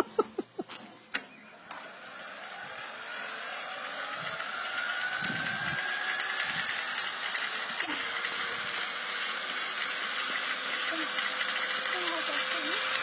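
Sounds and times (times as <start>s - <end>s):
electric drill motor whine: 1.4s - 13.0s.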